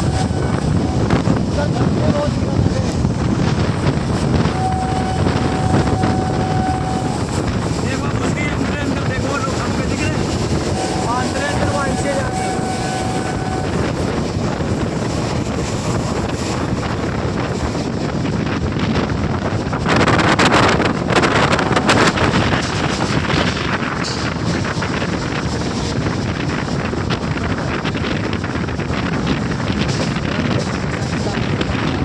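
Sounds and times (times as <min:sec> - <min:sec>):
train running noise: 0:00.0 - 0:32.0
wind rushing over microphone: 0:00.0 - 0:32.0.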